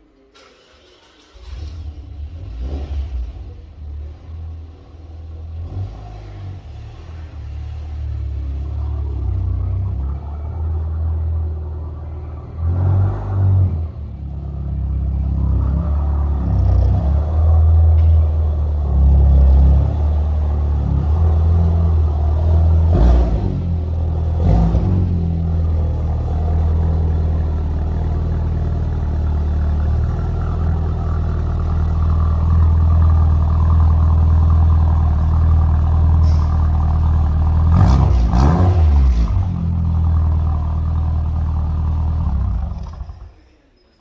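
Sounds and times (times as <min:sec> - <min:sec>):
road noise: 0:00.1 - 0:43.8
car engine droning: 0:00.2 - 0:44.0.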